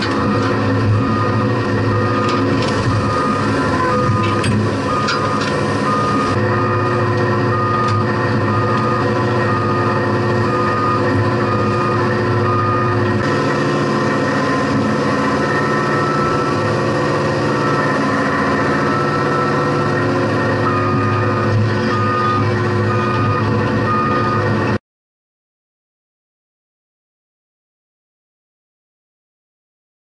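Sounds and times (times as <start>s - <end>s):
heavy equipment engine running: 0.0s - 24.8s.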